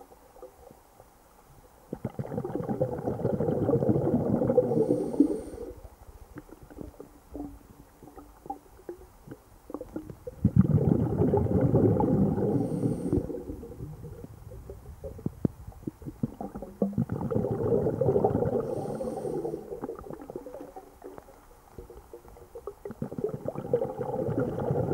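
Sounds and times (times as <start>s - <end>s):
air bubbles rumbling underwater: 1.9s - 24.9s.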